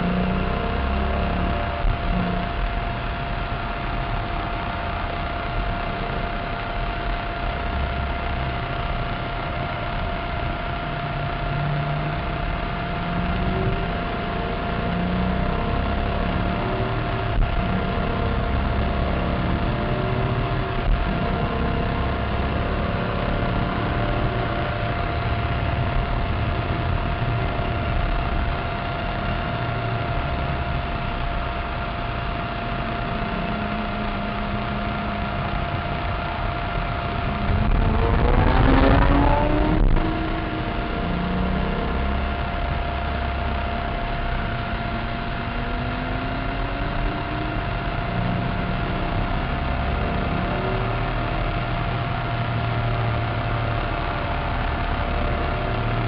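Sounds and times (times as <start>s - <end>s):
car engine and road noise: 0.0s - 56.0s
thin whine: 0.0s - 56.0s.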